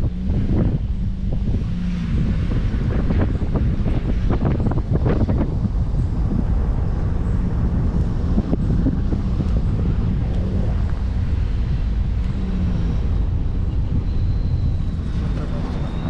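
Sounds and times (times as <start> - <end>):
car driving on road: 0.0 - 16.0
wind buffeting microphone: 0.0 - 16.0.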